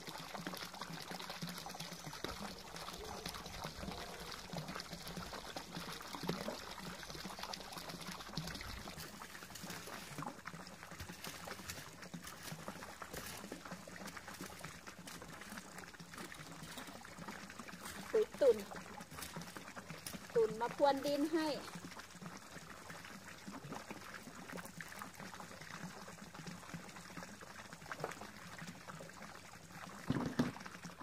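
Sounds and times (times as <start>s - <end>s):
water pouring into pond: 0.0s - 31.0s.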